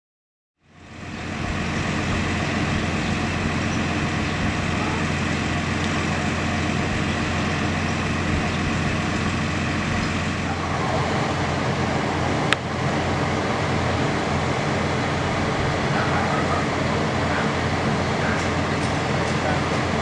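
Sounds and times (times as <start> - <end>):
truck engine humming: 0.6 - 20.0.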